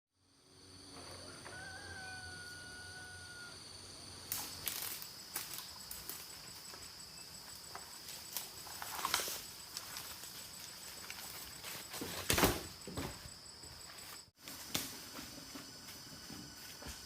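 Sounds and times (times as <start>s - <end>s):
insects trilling: 0.2s - 17.0s.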